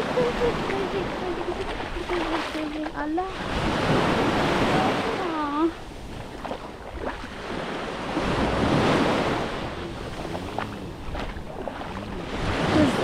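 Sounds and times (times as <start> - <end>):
small waves washing onto sand: 0.0 - 13.0
wind buffeting microphone: 0.0 - 13.0.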